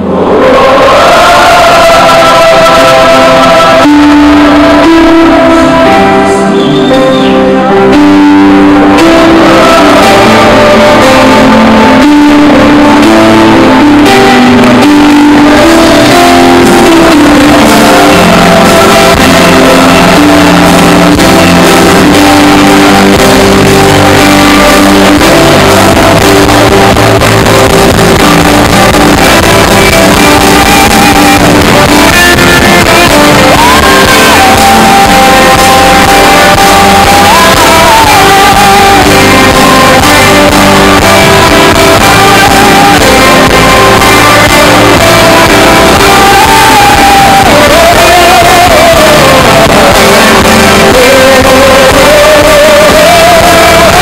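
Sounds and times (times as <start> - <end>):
gospel song with guitar and singing: 0.0 - 54.0.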